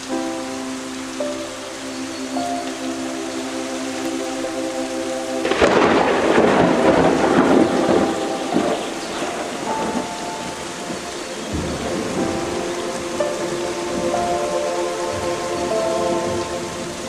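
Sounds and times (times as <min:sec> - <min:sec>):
soft music with held notes: 0:00.0 - 0:17.0
steady rain: 0:00.0 - 0:17.0
thunder rumbling: 0:00.0 - 0:17.0.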